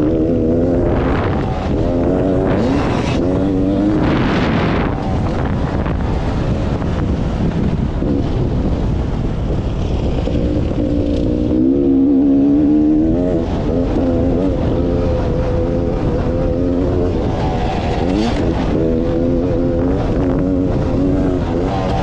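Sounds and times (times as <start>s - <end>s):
dirt bike engine revving: 0.0s - 8.8s, 10.2s - 22.0s
wind rumble on microphone: 0.0s - 22.0s.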